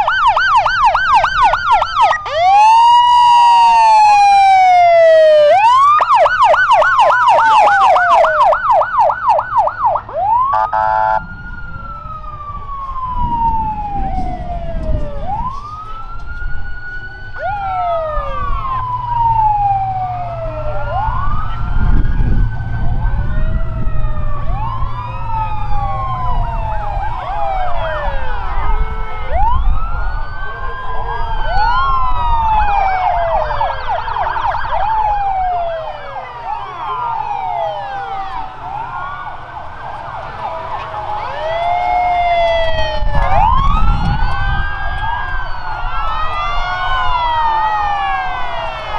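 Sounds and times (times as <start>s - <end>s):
emergency sirens wailing: 0.0s - 48.9s
passing vehicles rumble: 0.0s - 48.9s
siren yelp: 0.0s - 48.9s.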